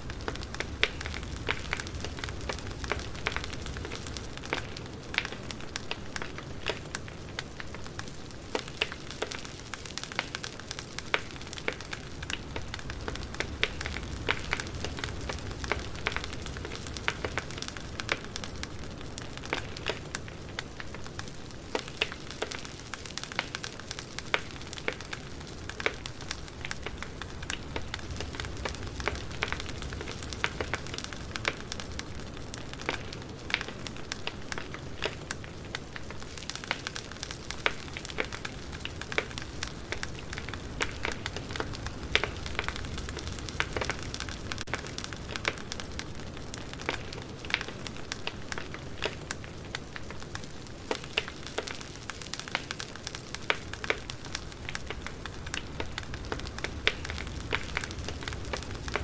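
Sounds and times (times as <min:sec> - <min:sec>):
campfire crackling and popping: 0:00.0 - 0:59.0
flames hissing: 0:00.0 - 0:59.0.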